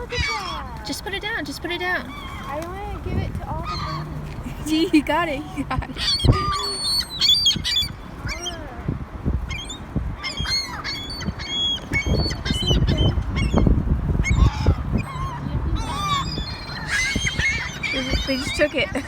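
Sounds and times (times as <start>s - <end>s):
seagulls squawking: 0.0s - 19.0s.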